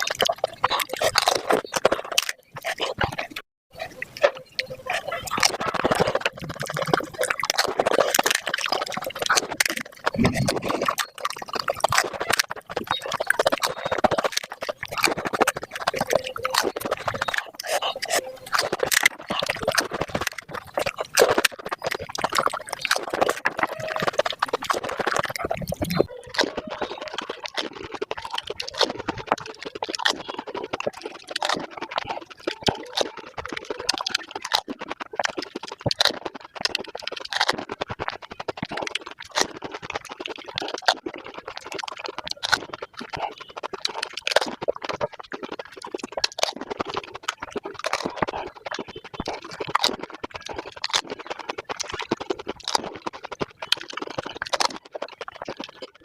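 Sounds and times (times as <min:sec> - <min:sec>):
crunching crisp shells: 0:00.0 - 0:56.0
wet slurping: 0:00.0 - 0:56.0.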